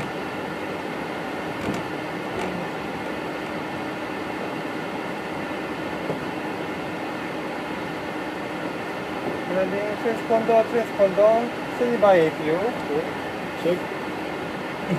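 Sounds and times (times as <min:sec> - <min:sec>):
air conditioning and engine hum: 0:00.0 - 0:14.9.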